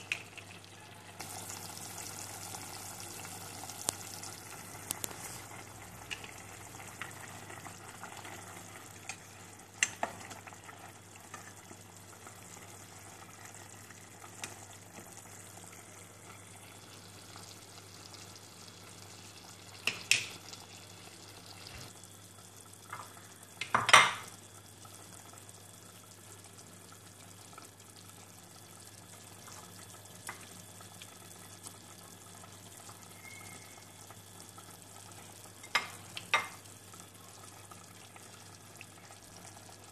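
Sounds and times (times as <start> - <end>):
faint steady hum: 0.0 - 39.9
soup bubbling in a pot: 0.0 - 39.9.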